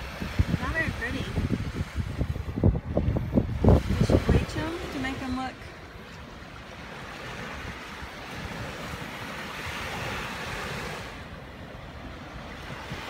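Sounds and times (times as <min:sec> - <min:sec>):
surf washing on a beach: 0:00.0 - 0:13.0
wind rumbling on microphone: 0:00.0 - 0:13.0.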